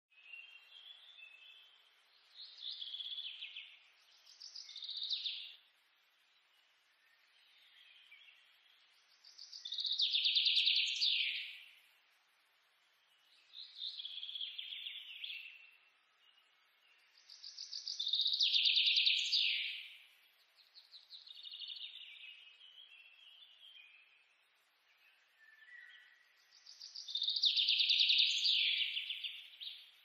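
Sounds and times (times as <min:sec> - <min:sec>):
bird singing trilled phrases: 0:00.1 - 0:05.6, 0:07.0 - 0:11.8, 0:13.0 - 0:30.0.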